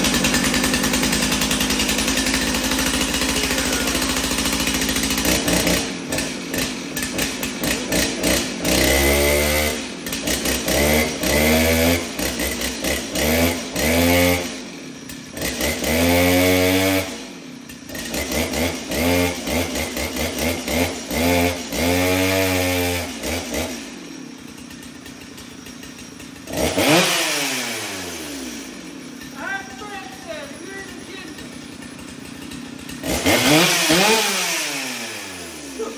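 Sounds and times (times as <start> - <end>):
chainsaw revving: 0.0 - 35.9.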